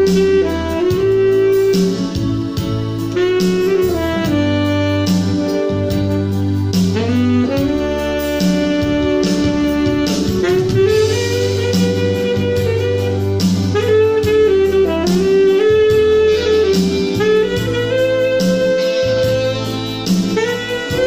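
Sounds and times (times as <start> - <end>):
keyboard accompaniment: 0.0 - 21.0
steady bass line: 0.0 - 21.0
tenor saxophone melody: 0.0 - 21.0.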